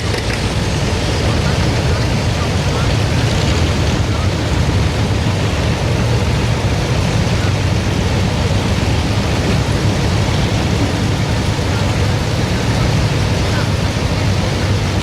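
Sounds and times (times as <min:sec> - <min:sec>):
tractor engine at full throttle: 0:00.0 - 0:15.0.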